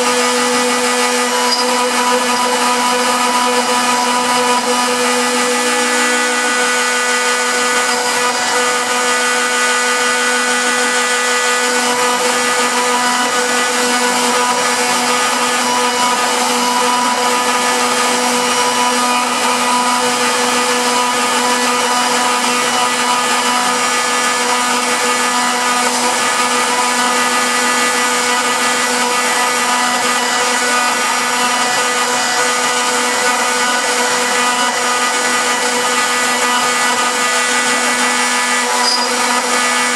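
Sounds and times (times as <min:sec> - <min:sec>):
router spindle motor whine: 0:00.0 - 0:39.9
rush of wood cutting: 0:00.0 - 0:39.9.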